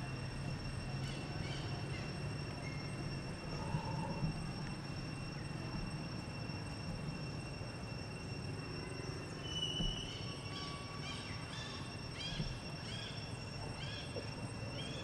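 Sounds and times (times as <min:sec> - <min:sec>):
high-pitched whine: 0:00.0 - 0:15.0
low background rumble: 0:00.0 - 0:15.0.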